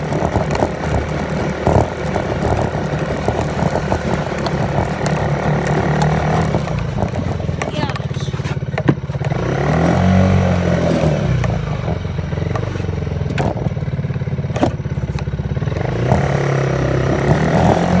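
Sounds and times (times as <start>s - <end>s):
off-road vehicle engine revving: 0.0s - 18.0s
sharp knocks and rattles: 0.0s - 18.0s.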